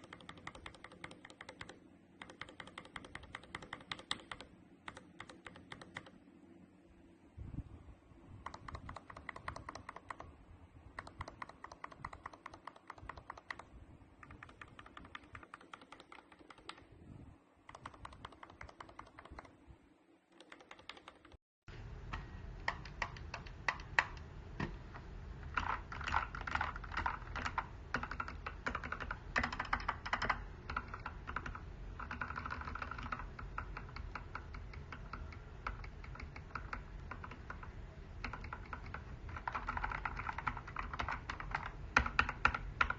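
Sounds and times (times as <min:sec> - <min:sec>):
typing on mechanical keyboard: 0:00.0 - 0:06.2, 0:08.4 - 0:10.3, 0:11.0 - 0:16.9, 0:17.7 - 0:19.5, 0:20.3 - 0:21.4, 0:22.2 - 0:24.7, 0:25.4 - 0:42.9.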